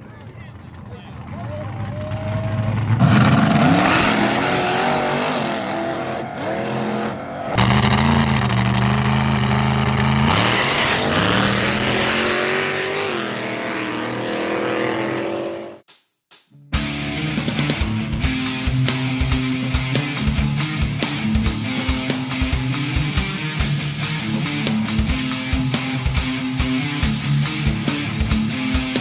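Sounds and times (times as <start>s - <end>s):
race car engines revving: 0.0s - 15.8s, 17.4s - 29.0s.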